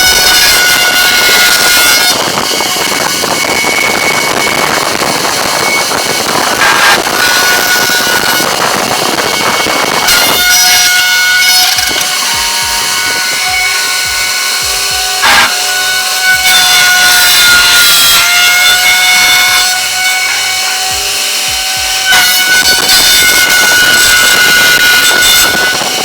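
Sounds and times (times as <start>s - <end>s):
machine motor whirring: 0.0s - 26.0s.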